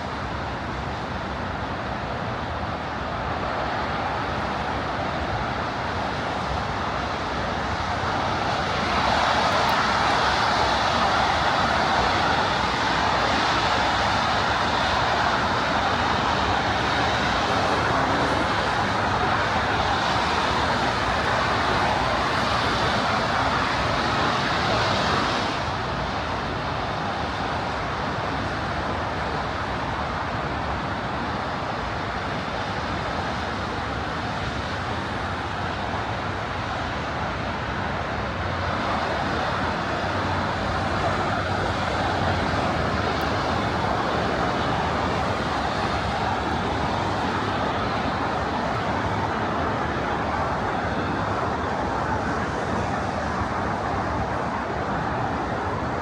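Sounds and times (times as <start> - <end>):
traffic hiss of passing vehicles: 0.0 - 56.0.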